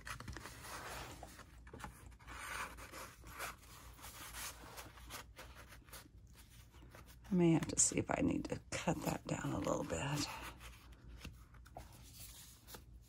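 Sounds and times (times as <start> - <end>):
paper rustling and scraping: 0.0 - 7.3, 8.9 - 13.0.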